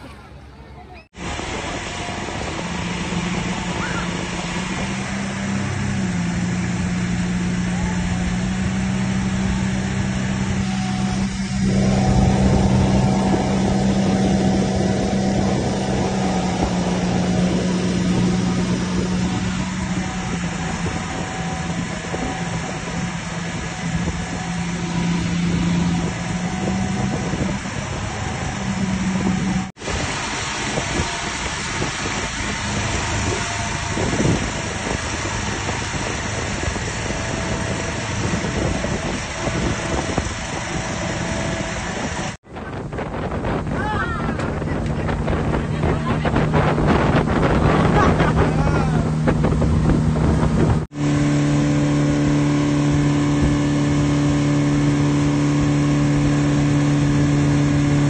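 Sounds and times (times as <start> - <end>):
boat engine droning: 0.0 - 58.0
rush of wind and water: 0.0 - 58.0.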